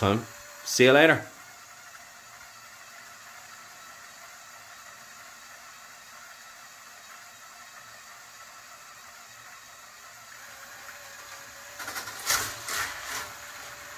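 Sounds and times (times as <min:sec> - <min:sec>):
motor lift whining: 0:00.0 - 0:13.9.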